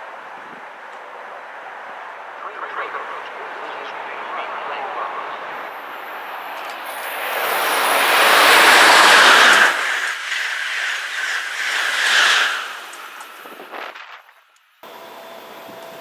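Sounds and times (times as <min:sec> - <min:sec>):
passenger train passing: 0:00.0 - 0:13.8, 0:14.8 - 0:16.0.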